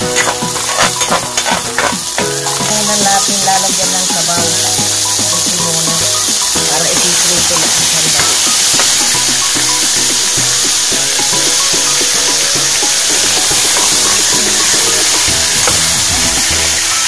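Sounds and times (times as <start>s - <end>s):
background music: 0.0s - 17.0s
chicken sizzling in hot oil: 0.0s - 17.0s.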